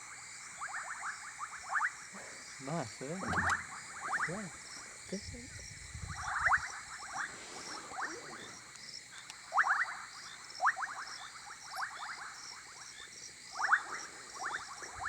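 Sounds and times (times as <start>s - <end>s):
frogs calling: 0.0s - 15.0s
high trill of insects: 0.2s - 15.0s.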